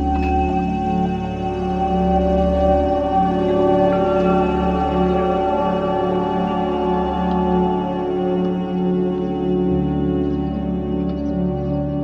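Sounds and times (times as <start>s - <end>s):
droning background music: 0.0s - 12.0s.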